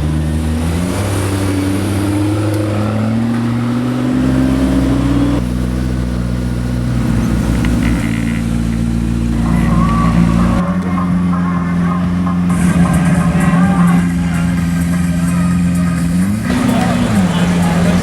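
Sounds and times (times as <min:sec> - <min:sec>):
car engine accelerating: 0:00.0 - 0:18.0
low car engine note: 0:00.0 - 0:18.0.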